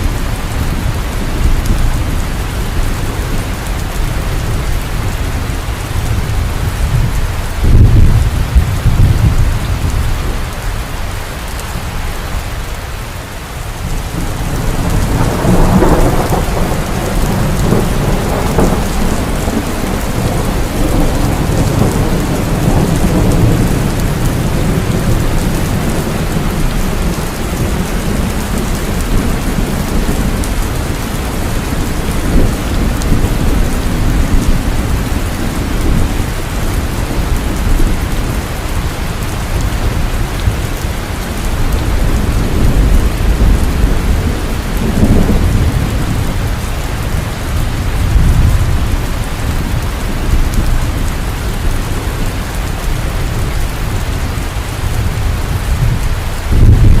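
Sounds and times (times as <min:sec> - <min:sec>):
rolling thunder: 0:00.0 - 0:10.9, 0:13.8 - 0:57.0
heavy rainfall: 0:00.0 - 0:57.0.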